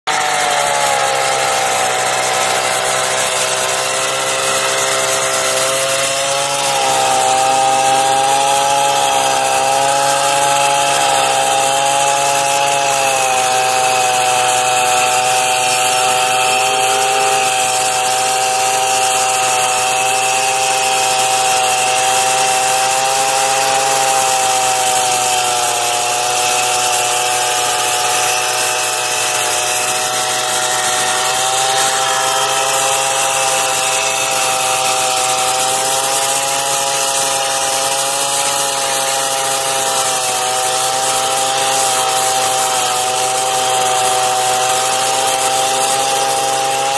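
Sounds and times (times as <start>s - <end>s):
chainsaw engine at high revs: 0.0s - 46.9s
grinder disc grinding metal: 0.0s - 46.9s.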